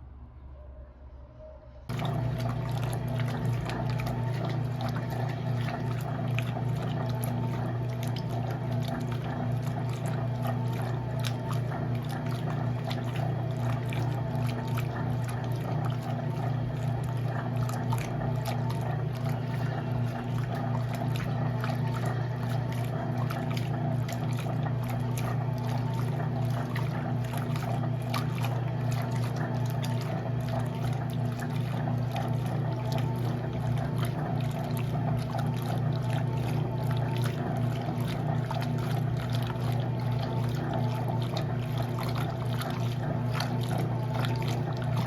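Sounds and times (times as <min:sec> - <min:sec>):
washing machine low hum: 0:01.4 - 0:45.0
washing machine water rushing: 0:01.9 - 0:45.0.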